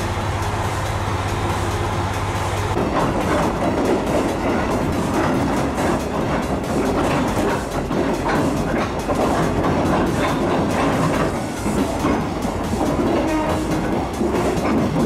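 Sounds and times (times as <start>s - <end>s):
railcar running rumble: 0.0s - 15.0s
wheels clicking over rail joints: 2.6s - 15.0s.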